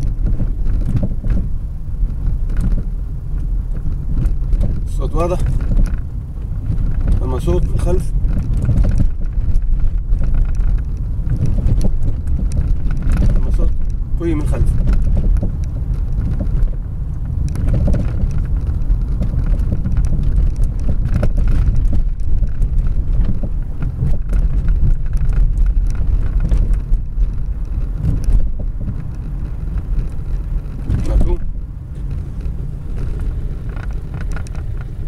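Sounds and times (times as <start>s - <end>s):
strong noise from car rear: 0.0s - 35.0s
suspension knocks and rattles: 0.0s - 35.0s
tyres rumbling on road: 0.0s - 35.0s.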